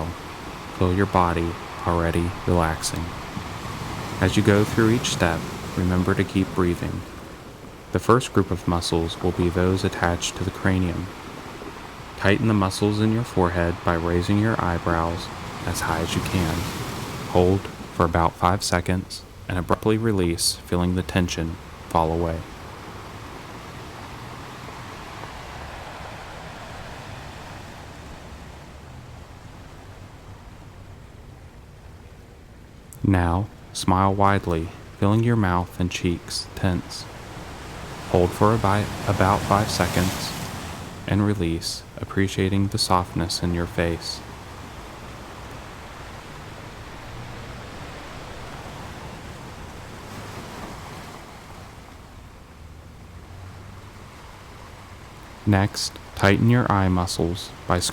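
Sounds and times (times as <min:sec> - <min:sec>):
ocean waves washing on beach: 0:00.0 - 0:57.9.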